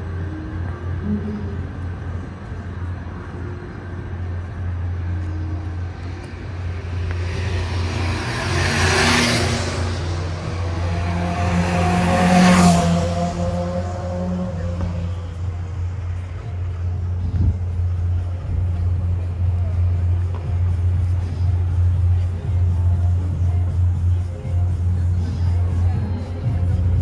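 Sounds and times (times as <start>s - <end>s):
low traffic hum: 0.0s - 27.0s
vehicles passing close by: 0.0s - 27.0s.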